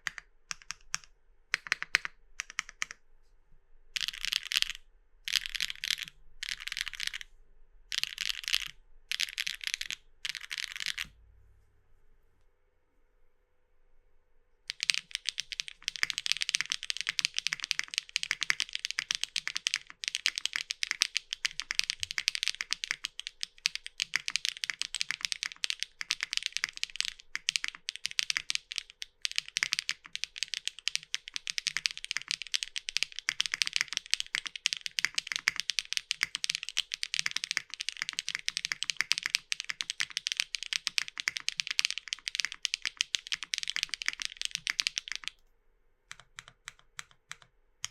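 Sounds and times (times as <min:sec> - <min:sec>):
fast typing on mechanical keyboard: 0:00.0 - 0:03.0, 0:04.0 - 0:07.3, 0:07.9 - 0:11.1, 0:14.7 - 0:45.4, 0:46.1 - 0:47.9.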